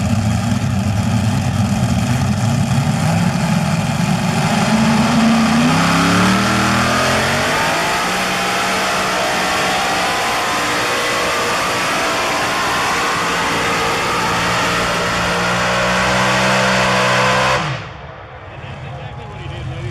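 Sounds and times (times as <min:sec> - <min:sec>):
tractor engines running under load: 0:00.0 - 0:17.3.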